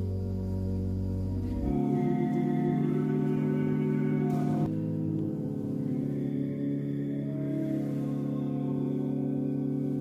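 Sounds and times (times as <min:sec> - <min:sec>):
slow sustained chords music: 0:00.0 - 0:10.0.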